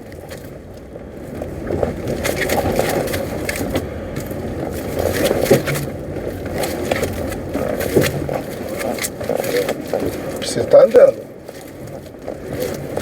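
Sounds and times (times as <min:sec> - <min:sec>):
car rolling rumble: 0:00.0 - 0:13.0.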